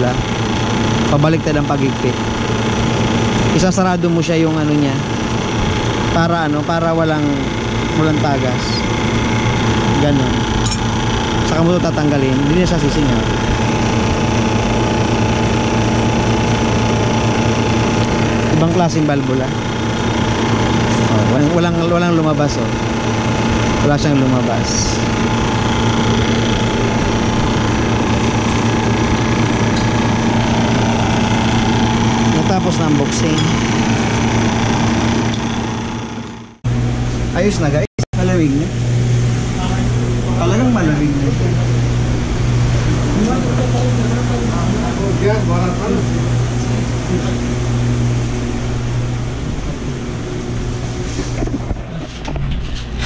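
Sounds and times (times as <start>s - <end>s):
fan air rushing: 0.0s - 53.0s
refrigeration compressor humming: 0.0s - 53.0s.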